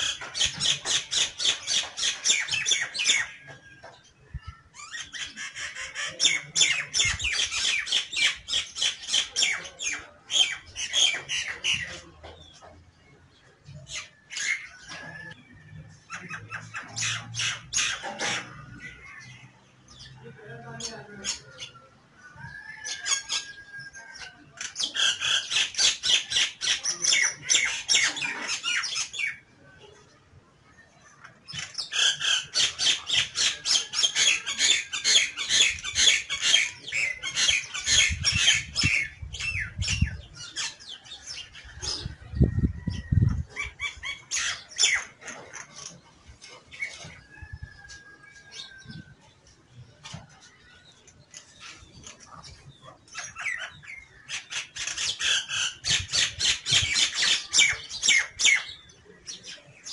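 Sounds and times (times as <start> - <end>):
myna chattering and whistling: 0.0 - 30.2, 30.8 - 59.9.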